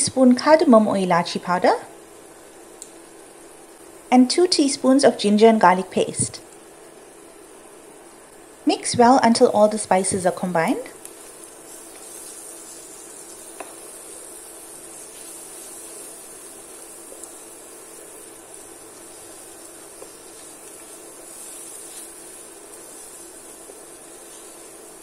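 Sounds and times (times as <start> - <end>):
onions frying in oil: 0.0 - 25.0.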